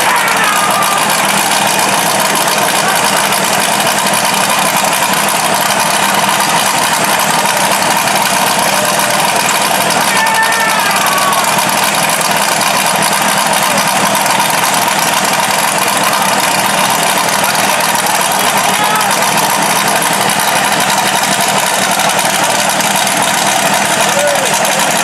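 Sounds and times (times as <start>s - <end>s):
utility vehicle engines idling: 0.0s - 25.0s.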